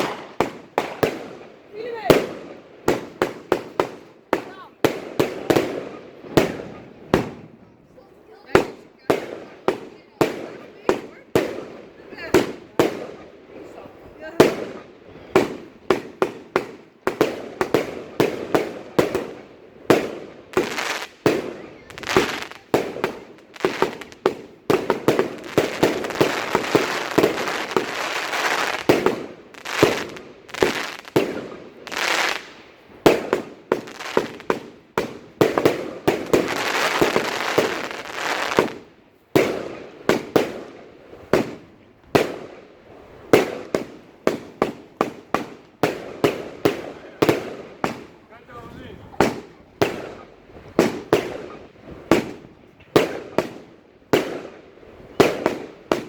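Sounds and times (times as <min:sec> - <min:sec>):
fireworks crackling: 0:00.0 - 0:56.0
fireworks launches and bursts: 0:00.0 - 0:56.0.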